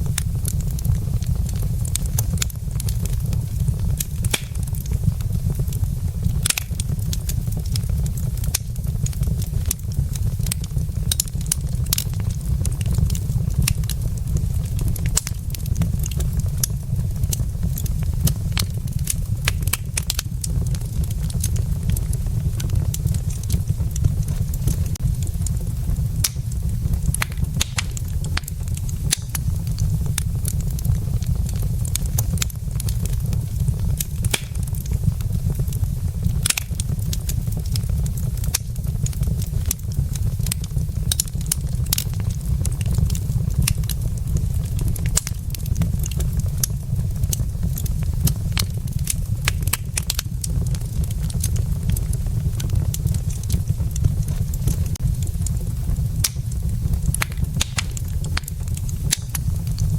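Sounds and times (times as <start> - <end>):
logs crackling and popping: 0.0 - 59.9
steady low rumble: 0.0 - 59.9.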